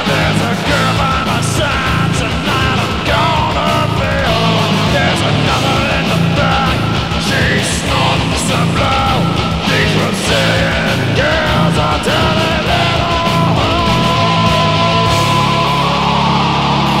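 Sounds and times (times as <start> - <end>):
metal song with full band: 0.0 - 17.0.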